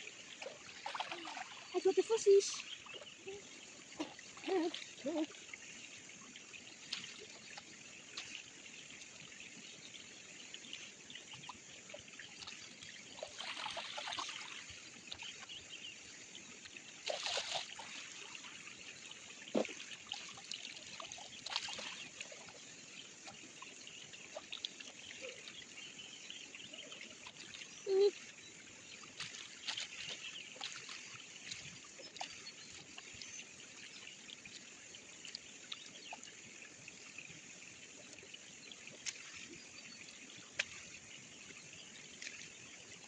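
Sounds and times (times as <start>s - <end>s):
stream water trickling: 0.0s - 43.0s
water splashes: 0.0s - 43.0s.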